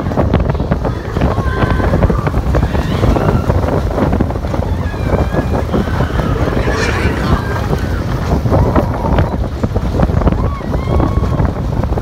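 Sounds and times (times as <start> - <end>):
roller coaster rumbling on track: 0.0 - 12.0
wind buffeting microphone: 0.0 - 12.0.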